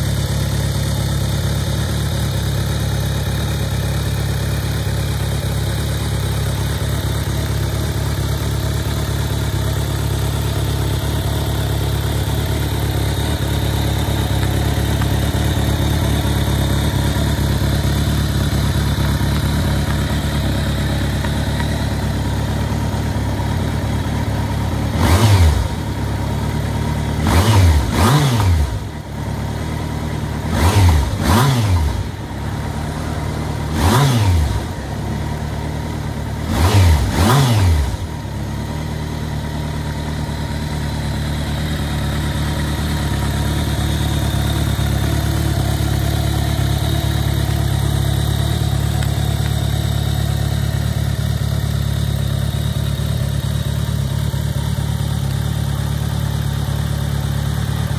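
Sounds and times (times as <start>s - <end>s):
motorcycle engine idling and revving: 0.0s - 57.9s.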